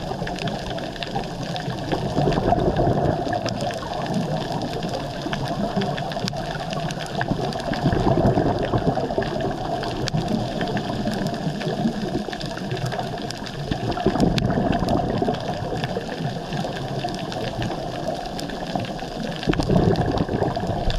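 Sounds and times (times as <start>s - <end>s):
underwater rushing bubbling water: 0.0s - 20.9s.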